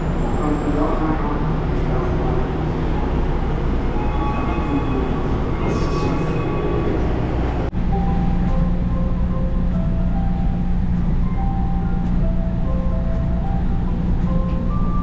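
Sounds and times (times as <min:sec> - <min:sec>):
faint steady tones: 0:00.0 - 0:15.0
low hum: 0:00.0 - 0:15.0
train and station rumble: 0:00.0 - 0:15.0.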